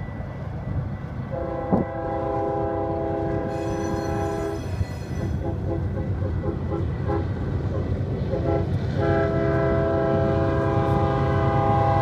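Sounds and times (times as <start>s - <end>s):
freight train rumbling: 0.0s - 12.0s
locomotive air horn: 1.3s - 7.5s, 8.2s - 12.0s.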